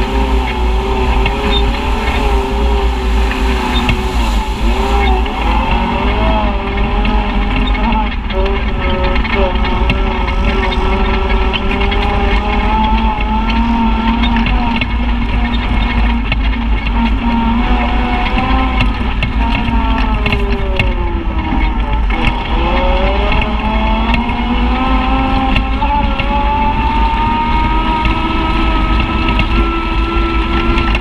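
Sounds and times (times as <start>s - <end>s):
low rumble: 0.0s - 31.0s
utility vehicle engine revving: 0.0s - 31.0s.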